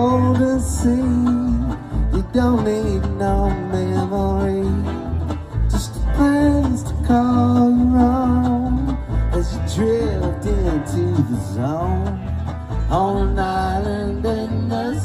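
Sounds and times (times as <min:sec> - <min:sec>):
strummed acoustic guitars: 0:00.0 - 0:15.0
upright bass: 0:00.0 - 0:15.0.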